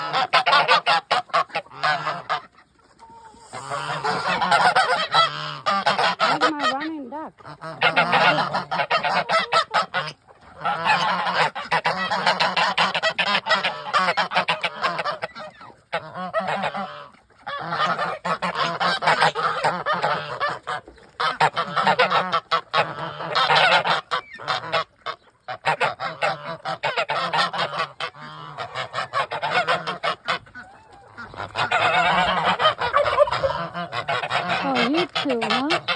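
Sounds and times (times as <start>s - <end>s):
poultry honking and squawking: 0.0s - 35.9s.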